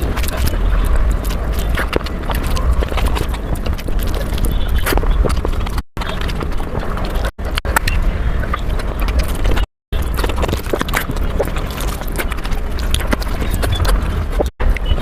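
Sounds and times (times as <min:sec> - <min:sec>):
chewing and mouth smacking: 0:00.0 - 0:15.0.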